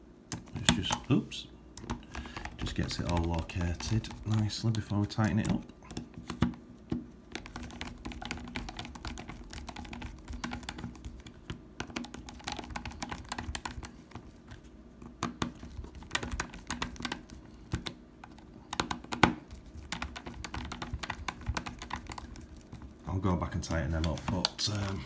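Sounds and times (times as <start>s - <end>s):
faint steady hum: 0.0s - 25.0s
plastic parts clicking and tapping: 1.8s - 22.9s.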